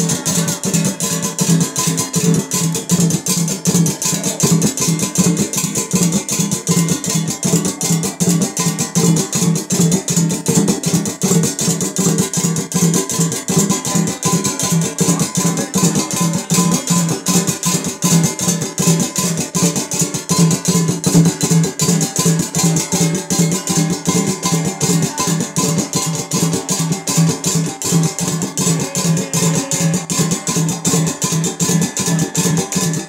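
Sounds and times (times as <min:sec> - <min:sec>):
drum beaten fast: 0:00.0 - 0:33.0.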